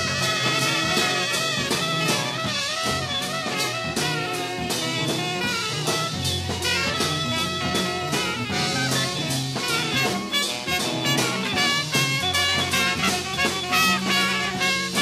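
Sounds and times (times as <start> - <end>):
drum kit steady beat: 0.0 - 15.0
jazz ensemble playing: 0.0 - 15.0.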